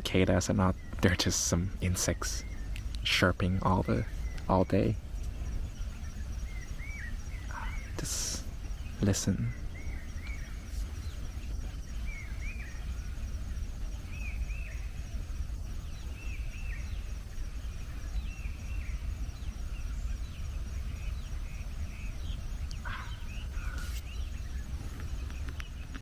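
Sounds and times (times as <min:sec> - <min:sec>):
insects chirping faintly: 0:00.0 - 0:26.0.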